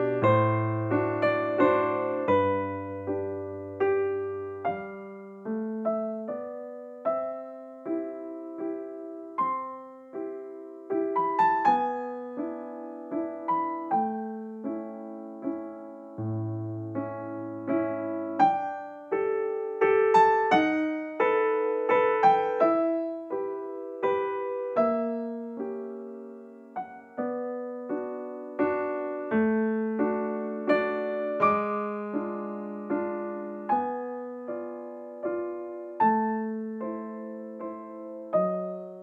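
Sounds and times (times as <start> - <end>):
gentle piano melody: 0.0 - 39.0.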